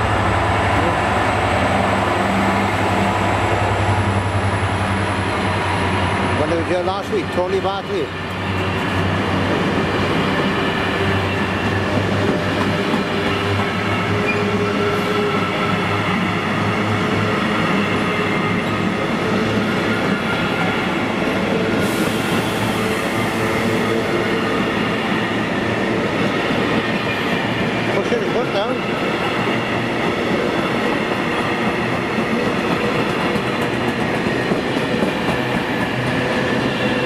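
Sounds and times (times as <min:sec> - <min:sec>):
train wheels running on rails: 0:00.0 - 0:37.0.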